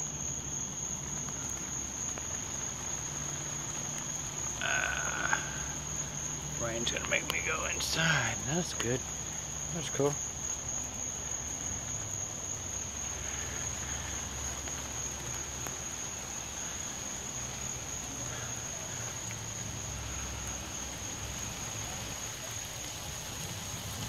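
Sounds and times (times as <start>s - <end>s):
light rain hissing: 0.0s - 24.0s
night insects trilling: 0.0s - 24.0s.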